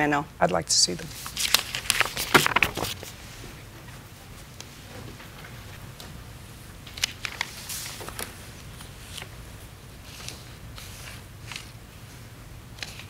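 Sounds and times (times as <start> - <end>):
faint room hum: 0.0 - 13.0
paper rustling and flicking: 1.1 - 3.6, 4.3 - 13.0.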